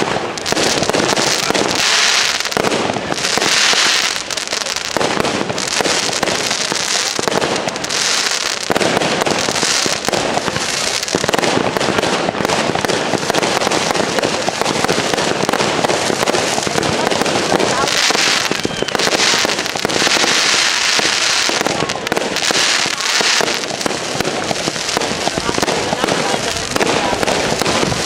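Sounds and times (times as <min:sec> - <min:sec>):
firework hiss: 0:00.0 - 0:28.0
fireworks popping and banging: 0:00.0 - 0:28.0.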